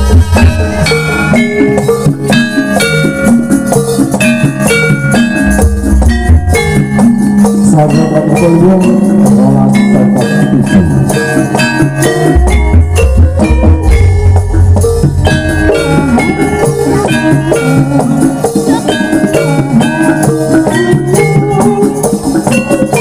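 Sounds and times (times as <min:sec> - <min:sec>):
drums: 0:00.0 - 0:23.0
struck metal instruments melody: 0:00.0 - 0:23.0.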